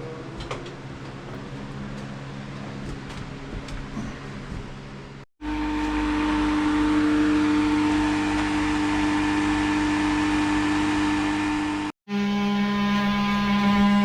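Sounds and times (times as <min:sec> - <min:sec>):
machine humming and whirring: 0:00.0 - 0:14.0.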